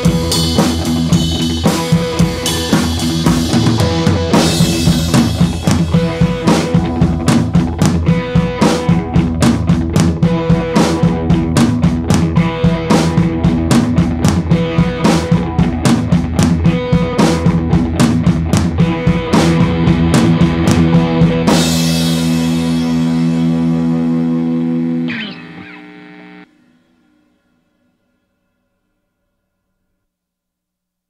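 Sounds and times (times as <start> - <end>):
rock music with guitar and drums: 0.0 - 26.5.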